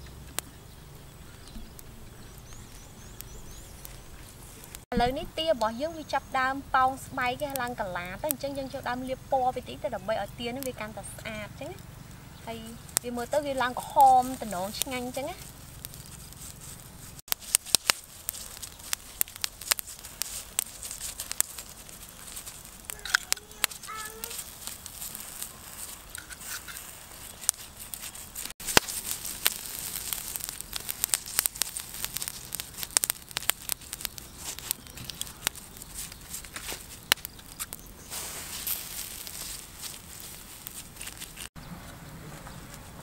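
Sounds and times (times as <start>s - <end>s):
charcoal fire crackling and popping: 0.0s - 43.0s
steady hiss: 0.0s - 43.0s.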